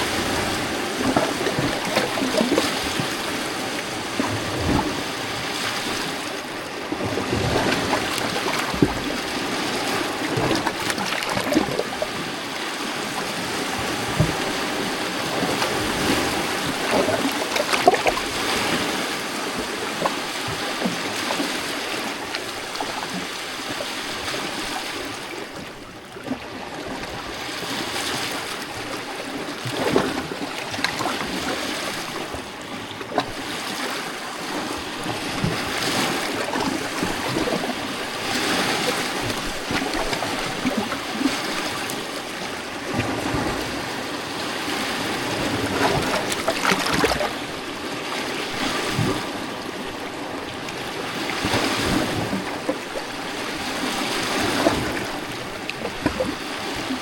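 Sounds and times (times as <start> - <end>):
waves lapping against rocks: 0.0 - 57.0.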